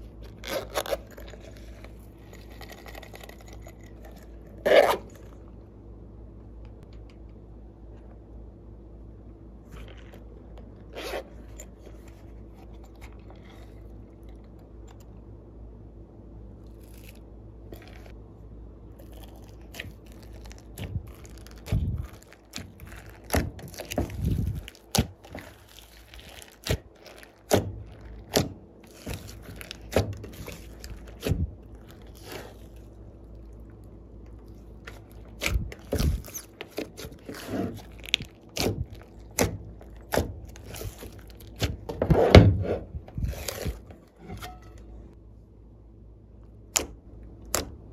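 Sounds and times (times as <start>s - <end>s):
low hum: 0.0s - 47.9s.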